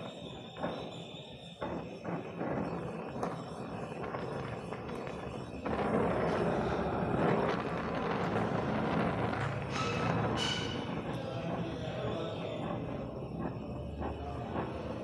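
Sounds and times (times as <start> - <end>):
welding torch flame hissing: 0.0 - 15.0.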